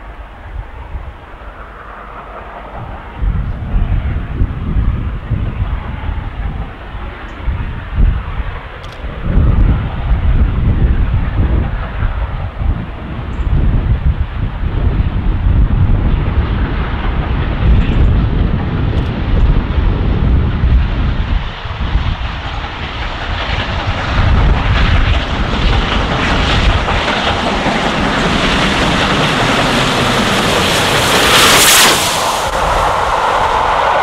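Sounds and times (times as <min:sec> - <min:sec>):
steam locomotive approaching: 0:00.0 - 0:34.0
wind rumble on microphone: 0:00.0 - 0:34.0.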